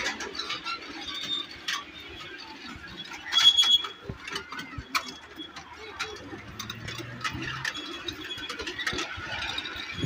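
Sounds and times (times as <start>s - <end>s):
train wheels clacking on rails: 0.0s - 10.0s.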